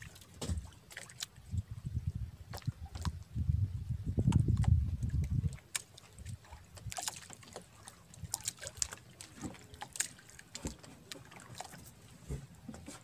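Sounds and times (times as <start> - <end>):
small splashes and knocks: 0.0 - 1.7, 2.5 - 3.2, 4.1 - 13.0
water lapping against boat hull: 0.0 - 13.0.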